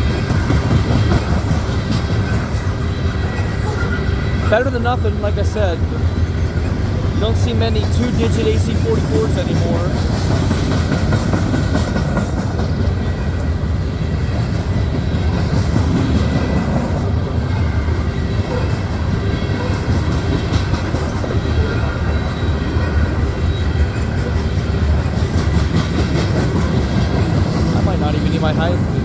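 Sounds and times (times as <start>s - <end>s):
freight train rumbling past: 0.0s - 29.0s
train wheels clicking and clattering: 0.0s - 29.0s.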